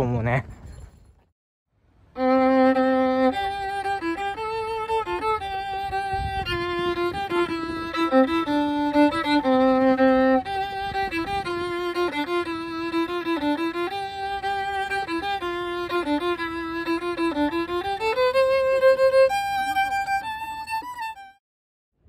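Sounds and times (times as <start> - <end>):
solo violin melody: 2.0 - 21.4.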